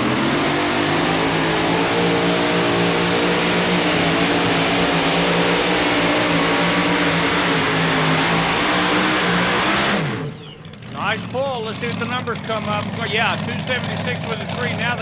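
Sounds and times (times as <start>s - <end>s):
pulling truck engine at full throttle: 0.0s - 15.0s.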